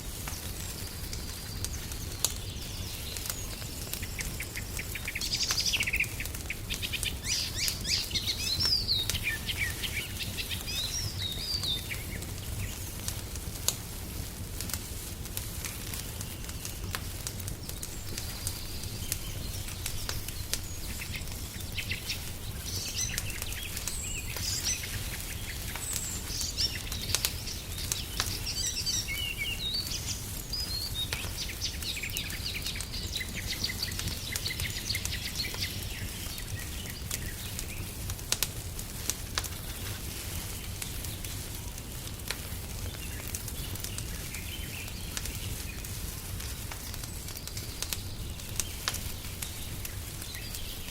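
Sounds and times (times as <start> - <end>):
wood fire crackling: 0.0 - 50.9
sharp pops of fire: 0.1 - 50.9
small birds chirping: 0.1 - 50.9.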